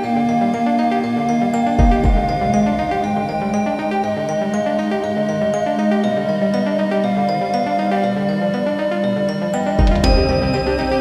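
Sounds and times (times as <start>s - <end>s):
high notes over held chords: 0.0s - 11.0s.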